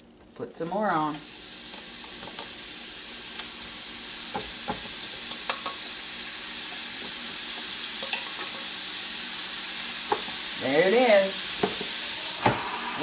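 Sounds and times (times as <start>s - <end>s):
patties sizzling on a grill: 0.7s - 13.0s.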